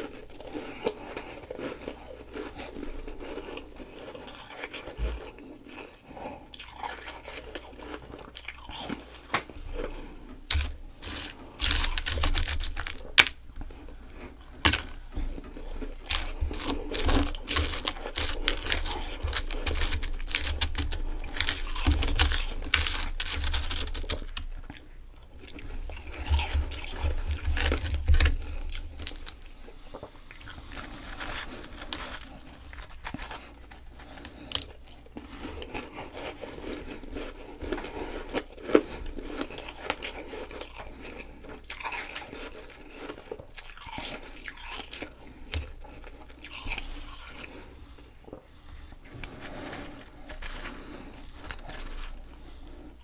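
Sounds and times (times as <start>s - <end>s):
chewing crunching ice: 0.0s - 53.0s.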